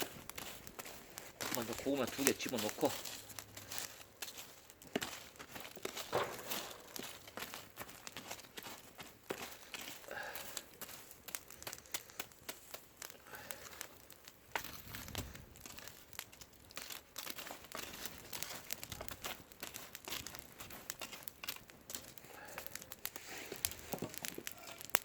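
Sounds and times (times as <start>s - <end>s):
charcoal crackling: 0.0s - 25.0s
embers crunching and shifting: 0.0s - 25.0s.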